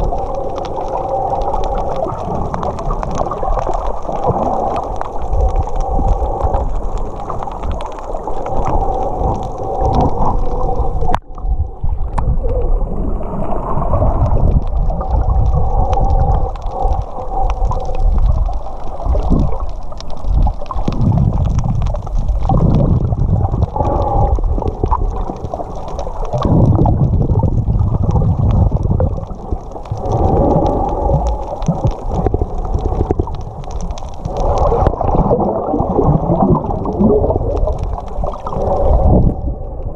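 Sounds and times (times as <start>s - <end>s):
underwater churning rumble: 0.0s - 39.9s.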